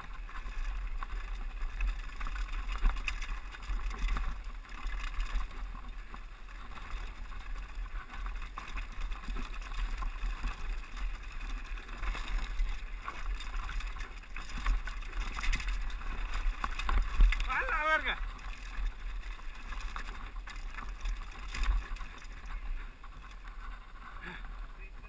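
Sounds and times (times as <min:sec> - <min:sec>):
mountain bike rattling: 0:00.0 - 0:25.0
tyres crunching over gravel: 0:00.0 - 0:25.0.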